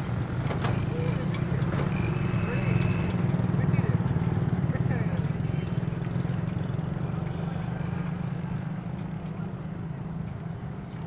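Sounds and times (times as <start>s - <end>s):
train rumbling: 0.0s - 9.4s.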